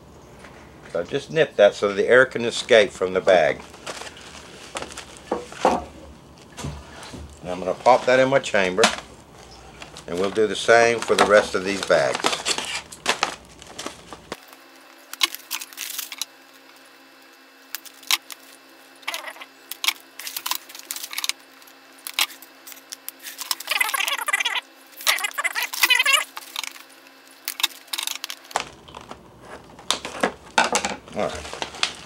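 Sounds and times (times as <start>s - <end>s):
foil bags crinkling: 1.8s - 32.0s.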